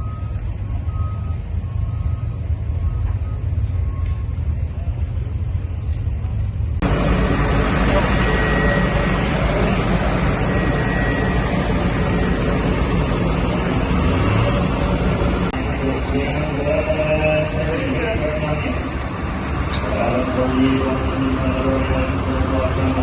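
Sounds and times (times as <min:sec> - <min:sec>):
machinery engine rumble: 0:00.0 - 0:23.0.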